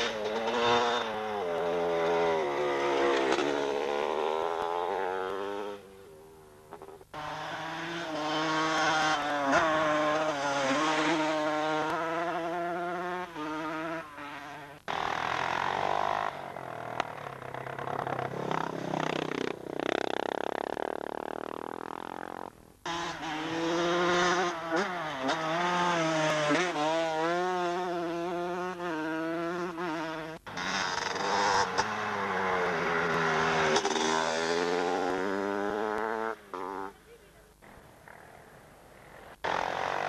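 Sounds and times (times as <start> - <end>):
motocross bike engines buzzing: 0.0 - 40.0.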